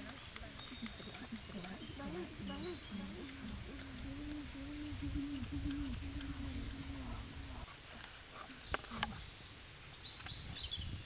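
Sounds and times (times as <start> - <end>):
sharp clicks: 0.0 - 9.2, 10.0 - 10.8
high bird chirps: 0.0 - 11.0.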